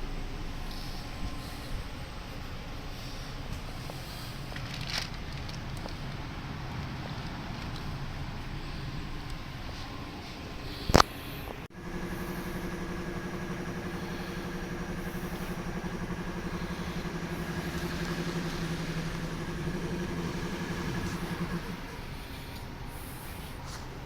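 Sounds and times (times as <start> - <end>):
car engine idling with whine: 0.0 - 24.0
steady low hum: 0.0 - 24.0.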